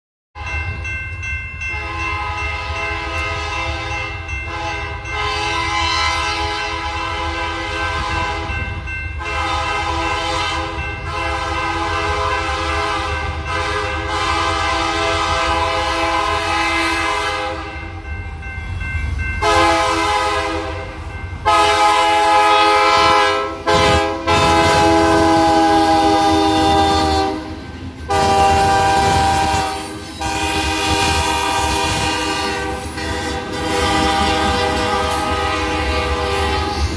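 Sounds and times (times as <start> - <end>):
freight train rumble: 0.4 - 36.9
locomotive air horn blasts: 1.7 - 8.6, 9.2 - 17.7, 19.4 - 36.9.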